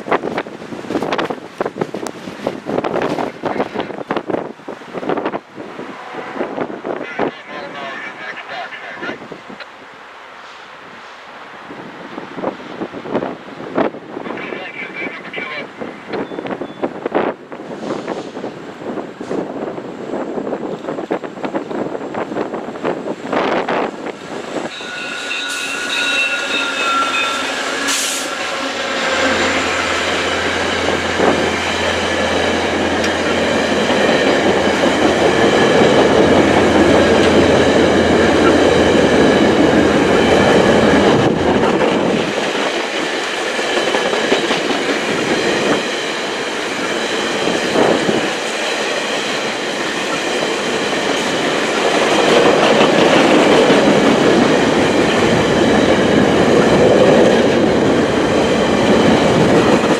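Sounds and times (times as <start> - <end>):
train wheels rumbling on rails: 0.0 - 8.1, 15.8 - 59.9
diesel locomotive engine drone: 0.0 - 59.9.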